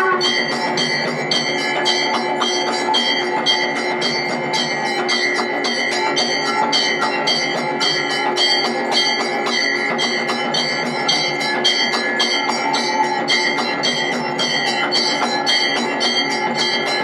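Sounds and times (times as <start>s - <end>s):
temple bells ringing: 0.0s - 17.0s.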